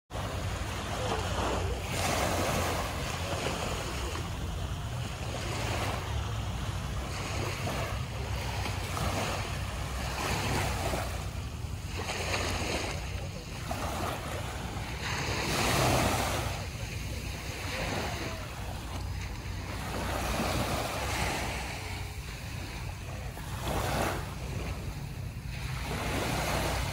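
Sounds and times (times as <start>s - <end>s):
sea waves breaking: 0.1s - 26.9s.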